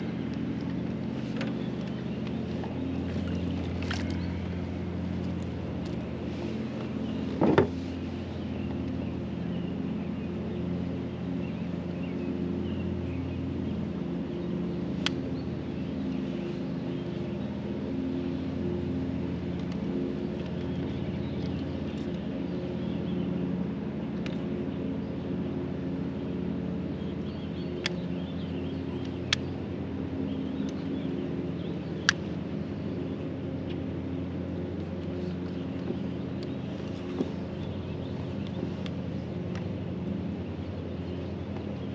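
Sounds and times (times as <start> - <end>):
low motor hum: 0.0 - 41.9.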